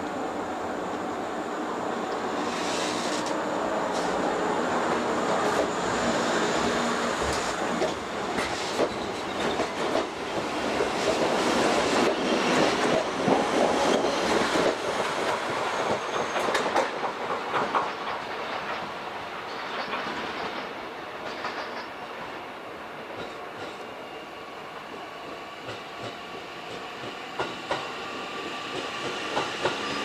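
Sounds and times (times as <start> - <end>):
electric train moving: 0.0 - 22.0, 23.2 - 30.0.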